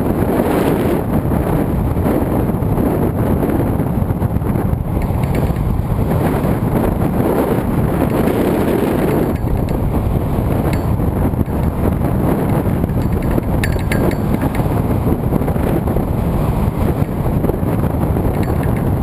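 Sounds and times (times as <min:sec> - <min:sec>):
loud wind noise: 0:00.0 - 0:19.0.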